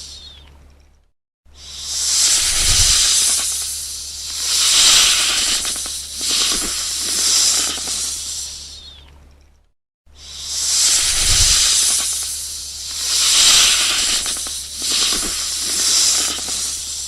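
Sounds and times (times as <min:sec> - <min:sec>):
snake hissing: 0:01.5 - 0:09.0, 0:10.1 - 0:17.0.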